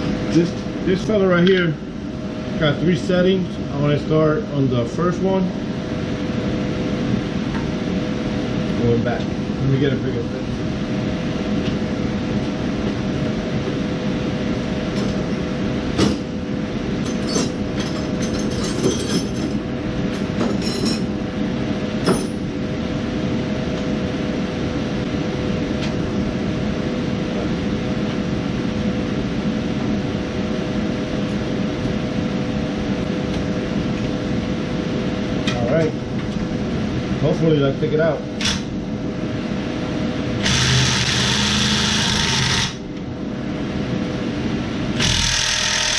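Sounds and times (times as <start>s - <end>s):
electric motor and fan whirring: 0.0s - 45.9s.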